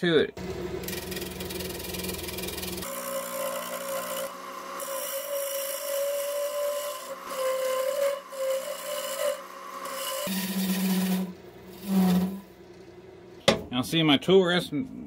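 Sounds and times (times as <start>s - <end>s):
wood lathe humming: 0.4s - 12.9s
turning tool scraping wood: 0.8s - 12.9s.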